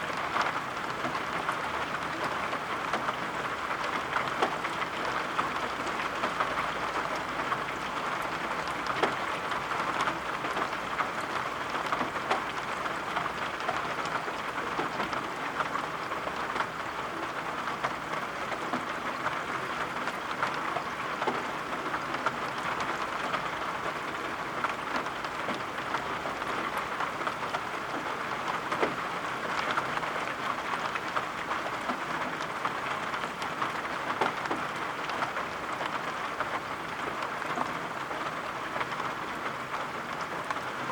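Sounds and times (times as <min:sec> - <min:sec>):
steady rain: 0:00.0 - 0:40.9
raindrops ticking: 0:00.1 - 0:40.9.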